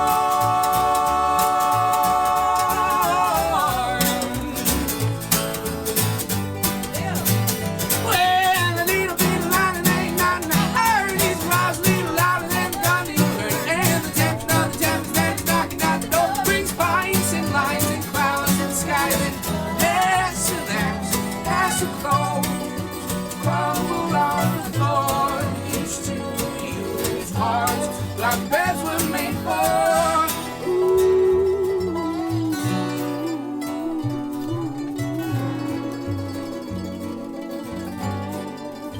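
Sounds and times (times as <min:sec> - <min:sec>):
person singing: 0:00.0 - 0:05.2, 0:06.8 - 0:38.9
plucked acoustic guitar: 0:00.0 - 0:38.9.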